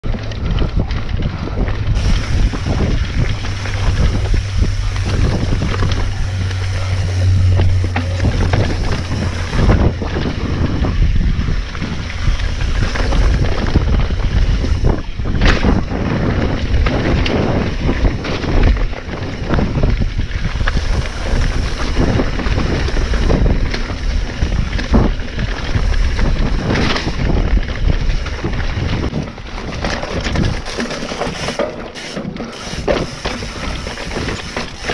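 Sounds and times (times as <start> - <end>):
bike knocking and rattling: 0.0 - 34.9
wind rush on microphone: 0.0 - 34.9.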